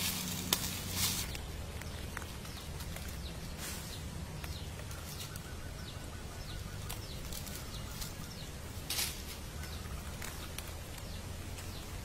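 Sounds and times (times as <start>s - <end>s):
dry leaves rustling and crackling: 0.0s - 12.0s
steady low rumble: 0.0s - 12.0s
faint bird chirps: 1.9s - 12.0s.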